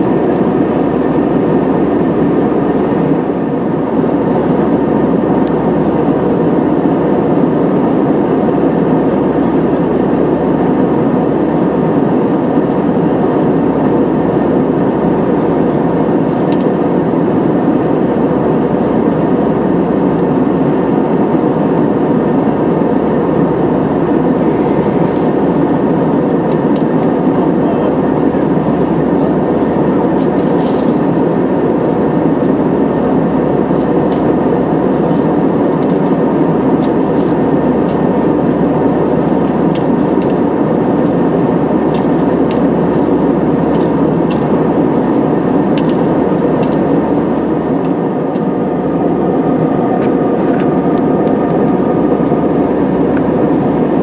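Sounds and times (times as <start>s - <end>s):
jet engines in cabin: 0.0s - 54.0s
rushing airflow: 0.0s - 54.0s.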